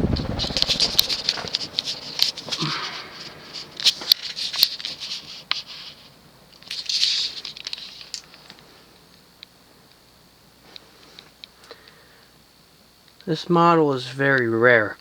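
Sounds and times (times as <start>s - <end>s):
ceiling fan clicking and rattling: 0.0s - 15.0s.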